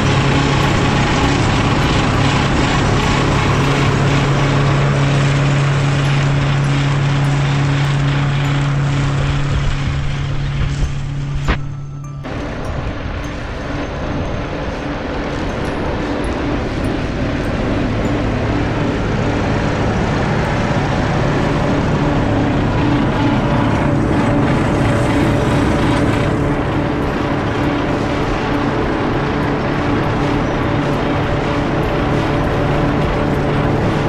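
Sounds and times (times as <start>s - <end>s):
tractor engines droning: 0.0s - 34.0s.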